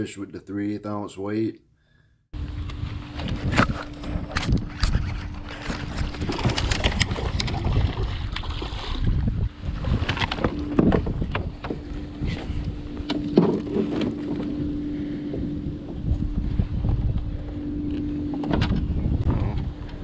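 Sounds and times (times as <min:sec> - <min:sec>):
steady low hum: 0:01.6 - 0:20.0
wind buffeting microphone: 0:02.4 - 0:20.0.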